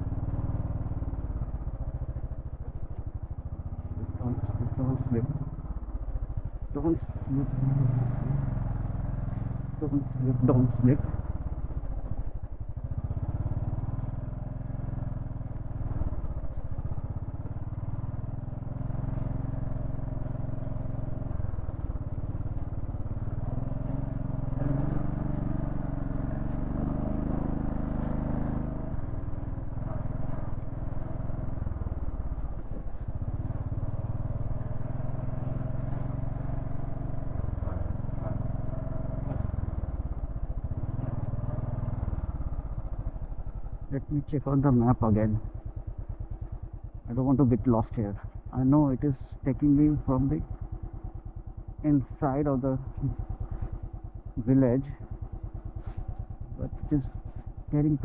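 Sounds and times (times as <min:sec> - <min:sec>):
motorcycle engine running at low revs: 0:00.0 - 0:58.0.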